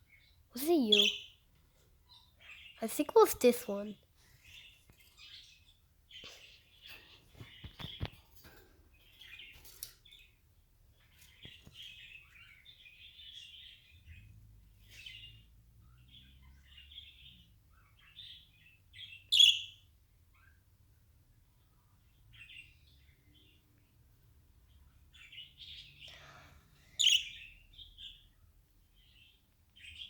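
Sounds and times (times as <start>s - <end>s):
pet birds chirping: 0.0s - 30.0s.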